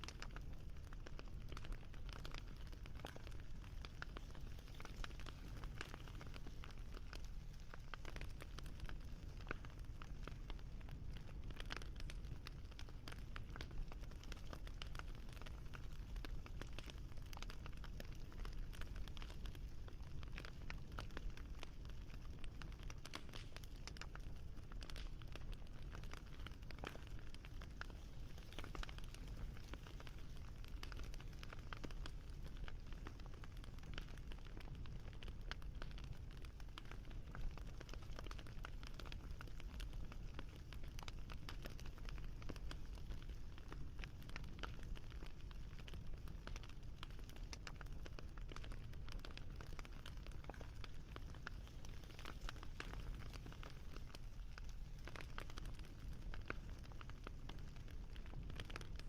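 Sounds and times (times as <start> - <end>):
campfire crackling: 0.0 - 59.0
low rumble of fire: 0.0 - 59.0.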